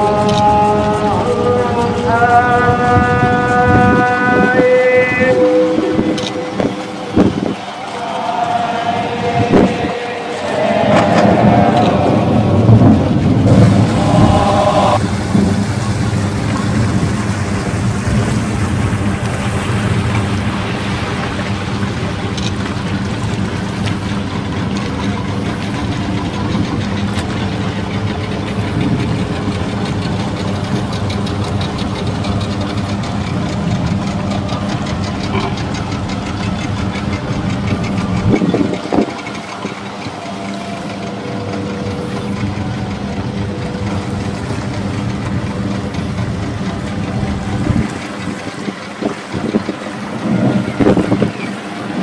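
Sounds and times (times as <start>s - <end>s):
boat engine running: 0.0s - 52.0s.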